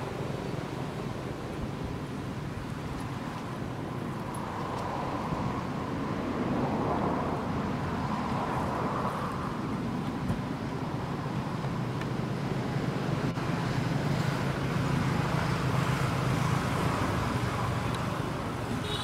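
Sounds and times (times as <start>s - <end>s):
outdoor background rush: 0.0s - 19.0s.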